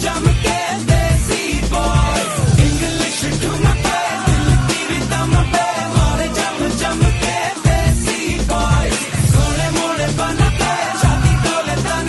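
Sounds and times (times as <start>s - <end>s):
pop music with heavy bass beat: 0.0s - 12.0s.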